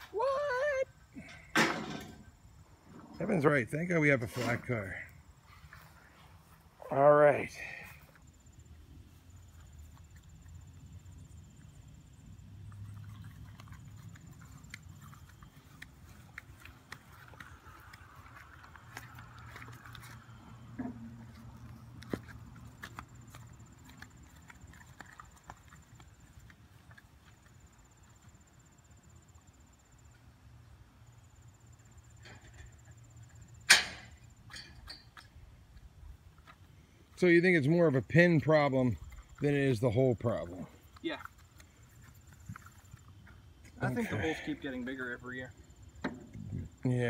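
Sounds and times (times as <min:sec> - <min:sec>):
faint high insect trill: 0:00.0 - 0:36.2, 0:37.1 - 0:47.0.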